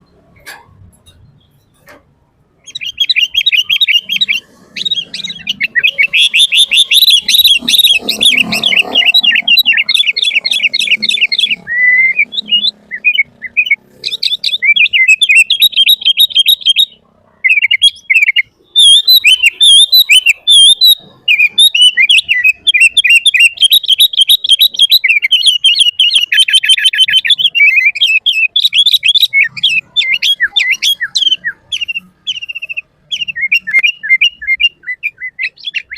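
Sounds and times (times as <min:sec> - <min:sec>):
bulbul singing: 0:00.0 - 0:35.9.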